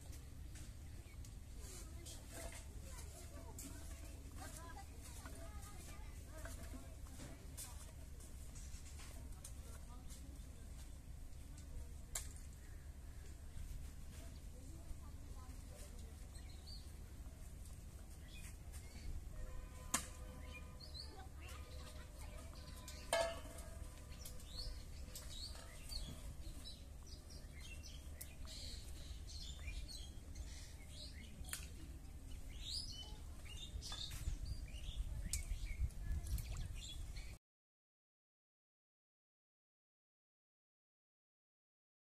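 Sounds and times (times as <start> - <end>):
small birds chirping: 0.0 - 37.4.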